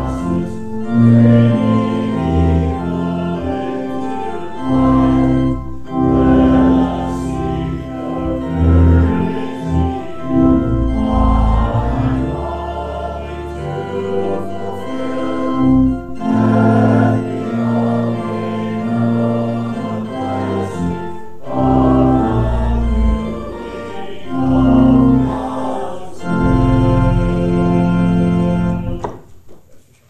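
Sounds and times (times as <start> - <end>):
church organ chords: 0.0 - 29.2
congregation singing: 0.0 - 29.2.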